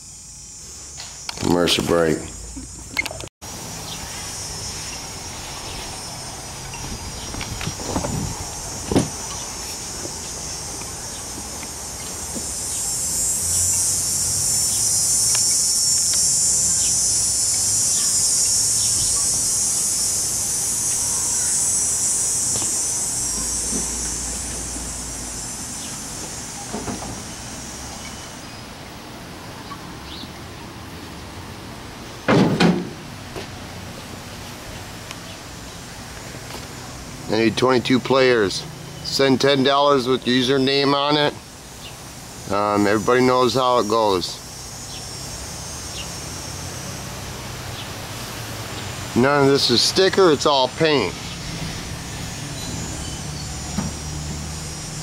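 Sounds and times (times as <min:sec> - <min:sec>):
cicada buzzing drone: 0:00.0 - 0:55.0.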